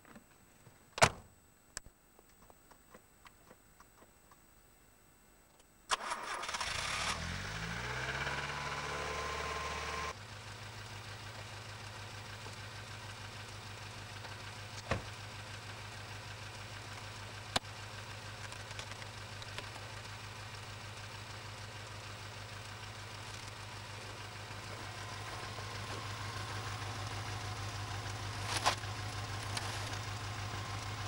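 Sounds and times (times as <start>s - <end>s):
car engine starting and idling: 5.9s - 31.0s.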